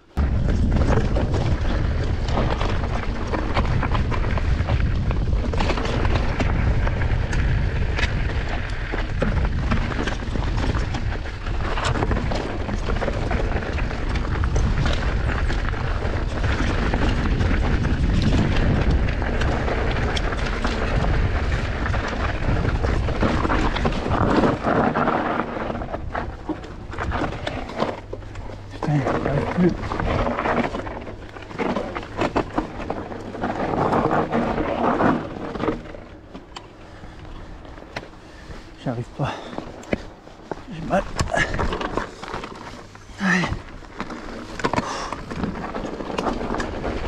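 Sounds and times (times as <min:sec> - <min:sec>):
wind buffeting microphone: 0:00.1 - 0:42.4
bike rattling over rocks: 0:00.1 - 0:47.0.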